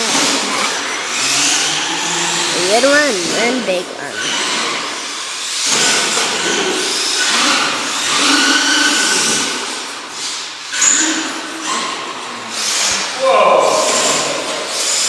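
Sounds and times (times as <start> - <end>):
rc truck motors whining: 0.0 - 13.0.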